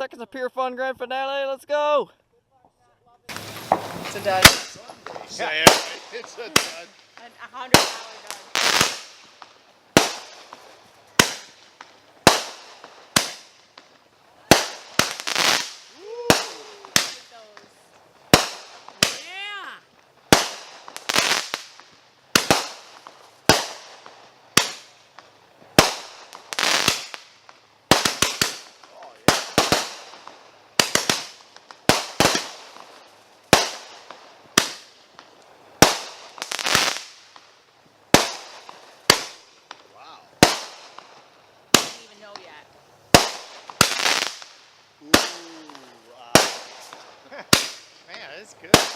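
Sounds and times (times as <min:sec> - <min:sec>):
fireworks bangs echoing: 0:03.3 - 0:48.9.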